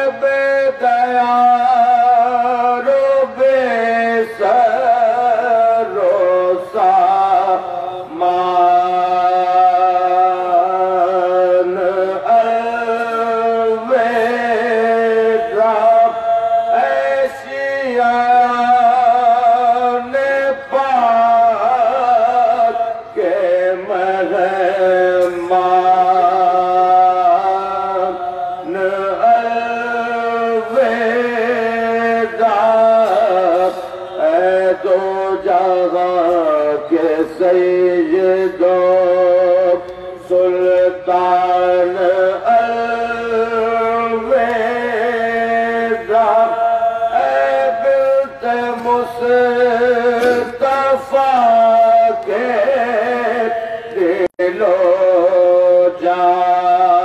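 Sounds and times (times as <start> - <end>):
man chanting into a microphone: 0.0 - 57.0.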